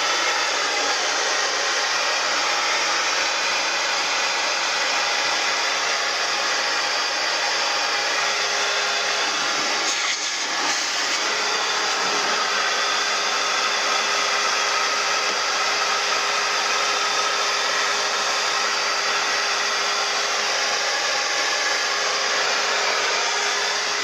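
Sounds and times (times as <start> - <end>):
cleaning machine running: 0.0 - 24.0.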